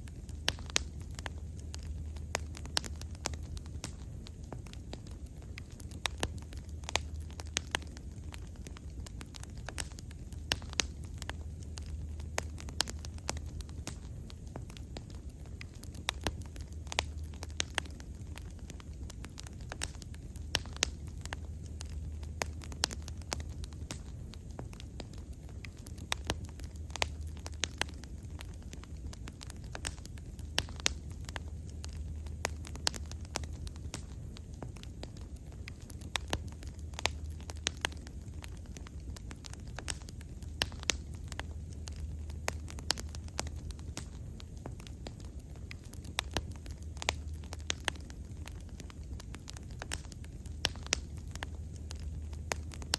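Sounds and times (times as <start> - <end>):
fire pops and crackles: 0.0 - 52.9
low rumble of flames: 0.0 - 52.9.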